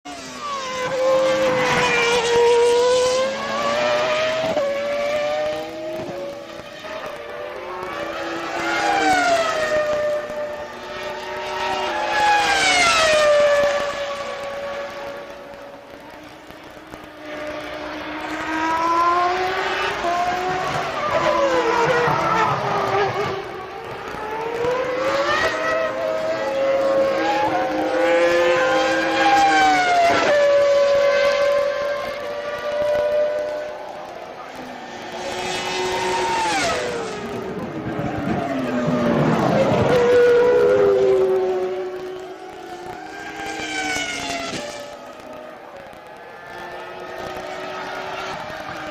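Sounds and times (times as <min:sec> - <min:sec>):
racing car engine at high revs: 0:00.0 - 0:48.9.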